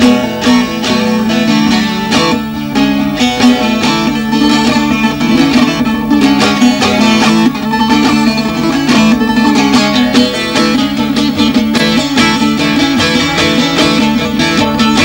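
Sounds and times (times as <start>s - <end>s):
long-necked lute playing: 0.0s - 15.0s.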